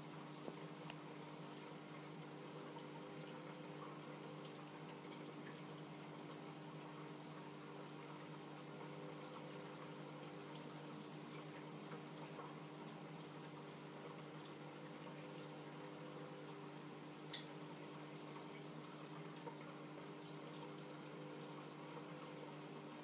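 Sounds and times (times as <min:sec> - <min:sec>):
low pump hum: 0:00.0 - 0:23.0
trickling water: 0:00.0 - 0:23.0.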